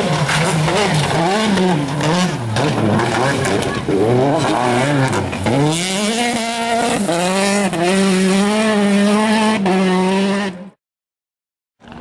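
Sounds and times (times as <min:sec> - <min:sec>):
rally car engine revving high: 0:00.0 - 0:10.8.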